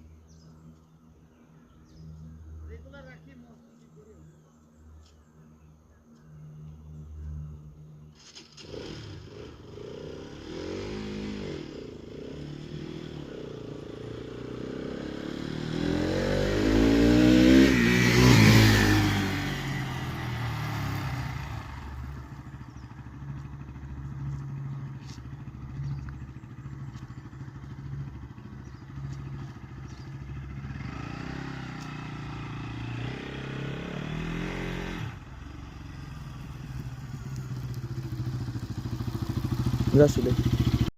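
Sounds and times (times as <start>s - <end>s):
motorcycle engine revving: 7.2s - 40.9s.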